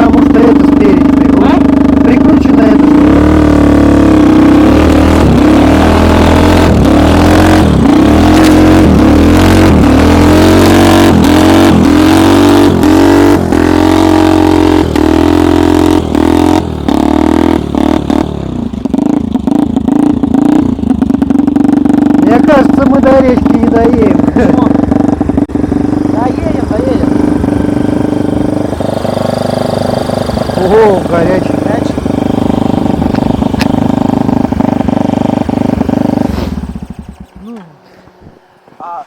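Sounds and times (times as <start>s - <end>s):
snowmobile engine revving: 0.0s - 39.0s.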